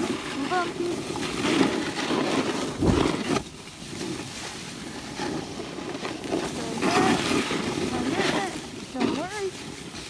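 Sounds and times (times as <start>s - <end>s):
snowboard scraping over snow: 0.0s - 10.0s.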